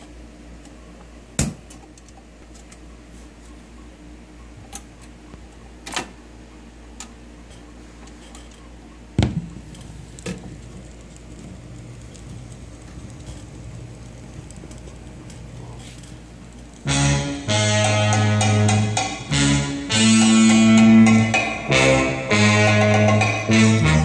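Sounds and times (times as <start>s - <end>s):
record changer hum: 0.0s - 24.0s.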